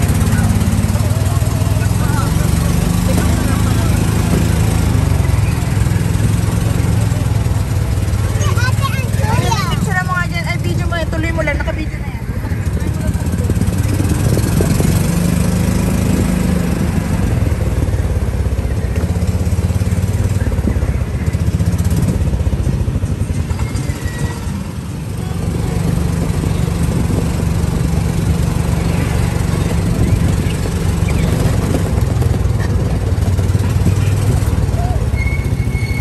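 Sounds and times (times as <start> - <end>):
golf cart engine drone: 0.0 - 36.0.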